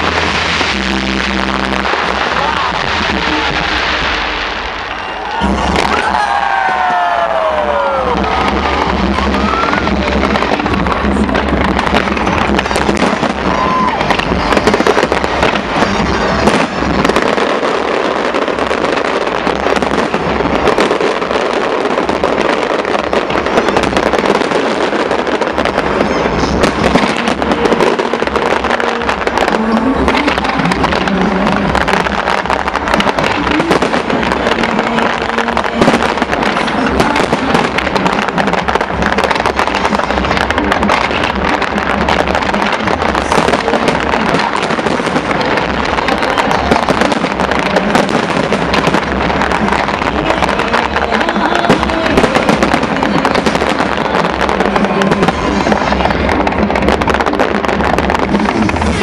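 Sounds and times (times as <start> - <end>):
fireworks bangs and crackling: 0.0 - 59.0
heavy low rumble: 0.0 - 59.0.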